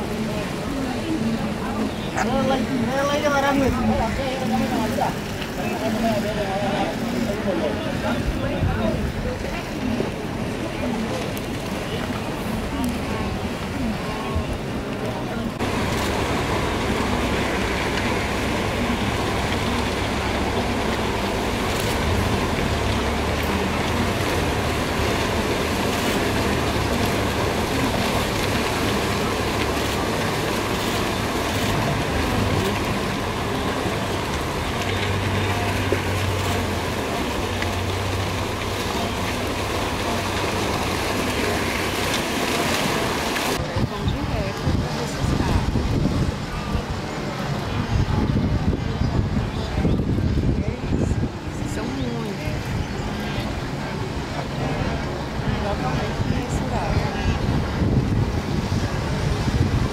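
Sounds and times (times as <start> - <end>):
animals splashing through water: 0.0 - 59.9
steady low rumble: 6.9 - 59.9.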